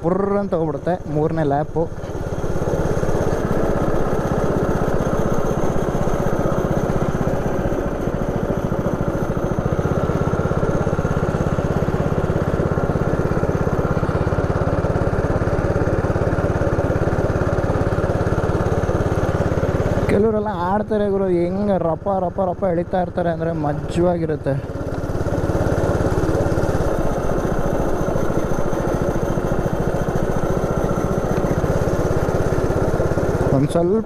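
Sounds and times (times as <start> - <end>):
go-kart engine running: 0.0 - 34.0.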